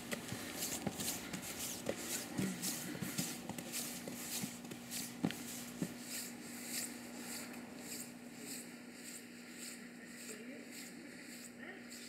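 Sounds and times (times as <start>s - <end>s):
footsteps on concrete steps: 0.0s - 12.0s.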